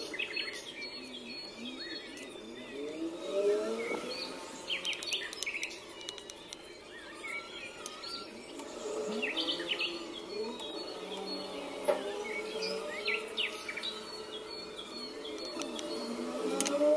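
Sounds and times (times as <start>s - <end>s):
birds chirping and calling: 0.0s - 16.9s.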